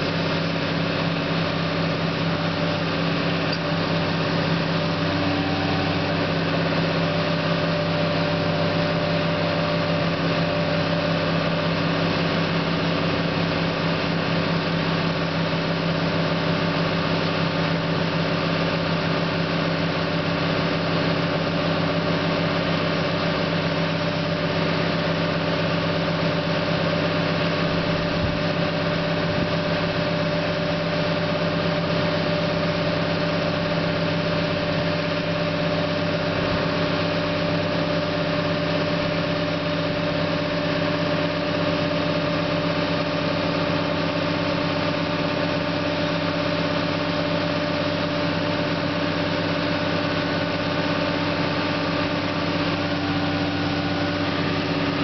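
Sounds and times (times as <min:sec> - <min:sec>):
excavator diesel engine humming: 0:00.0 - 0:55.0.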